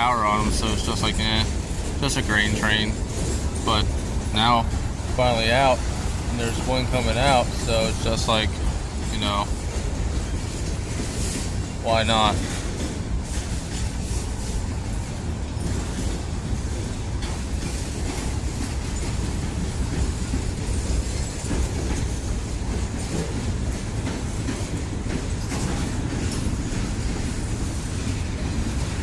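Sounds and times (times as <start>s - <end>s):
train cars rumbling past: 0.0s - 29.0s
wheels clacking over rail joints: 0.0s - 29.0s.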